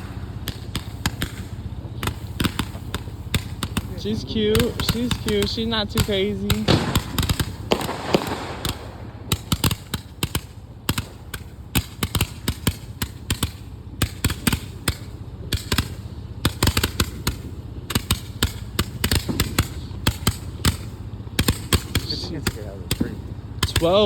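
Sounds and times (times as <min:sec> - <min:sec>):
firework bangs and pops: 0:00.0 - 0:24.0.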